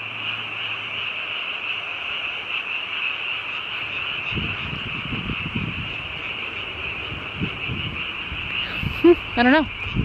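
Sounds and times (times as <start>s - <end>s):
frogs calling: 0.0s - 10.0s.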